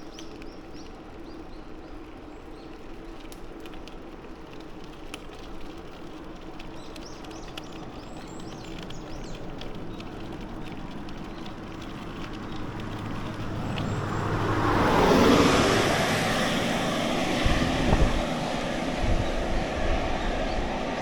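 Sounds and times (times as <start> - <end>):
vehicle approaching on road: 0.1 - 21.0.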